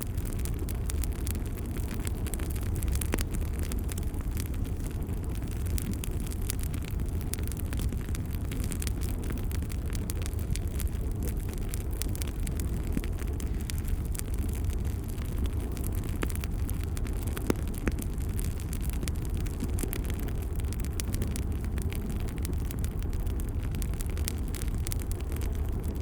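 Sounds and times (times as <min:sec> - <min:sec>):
fire snaps and pops: 0:00.0 - 0:26.0
wood fire crackling: 0:00.0 - 0:26.0.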